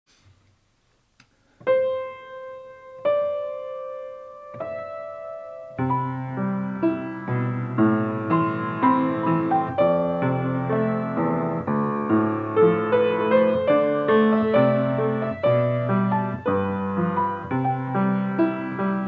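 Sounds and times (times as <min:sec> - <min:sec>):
solo piano music: 0:01.6 - 0:19.0.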